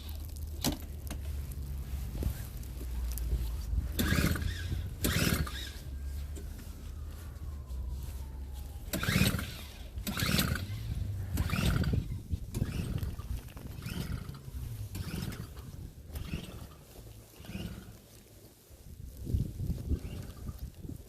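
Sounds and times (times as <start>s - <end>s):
low rumble: 0.0s - 18.1s
crunching scrapes in snow: 0.0s - 21.0s.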